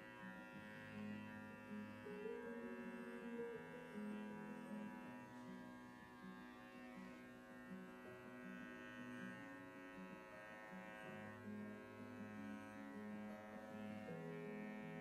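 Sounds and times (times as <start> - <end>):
quiet melody over drone: 0.0 - 15.0.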